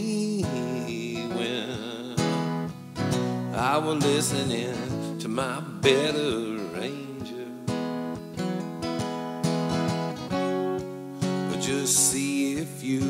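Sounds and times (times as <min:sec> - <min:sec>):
acoustic guitar strumming chords: 0:00.0 - 0:13.0
wavering guitar melody: 0:00.0 - 0:13.0.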